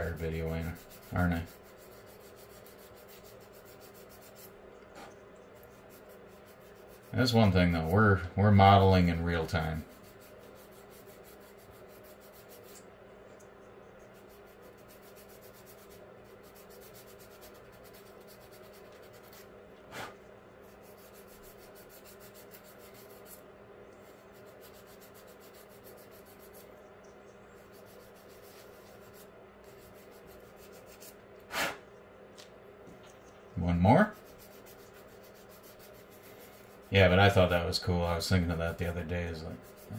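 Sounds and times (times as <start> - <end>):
sanding stick rasping: 0.0 - 4.6, 5.6 - 12.8, 14.0 - 23.4, 24.0 - 26.7, 27.6 - 31.2, 34.0 - 39.9
faint steady hum: 0.0 - 39.9.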